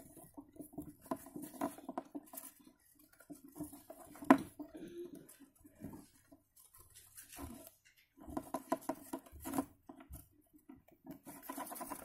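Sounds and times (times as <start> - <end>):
hamster claws scratching plastic: 0.0 - 4.6, 5.8 - 12.0.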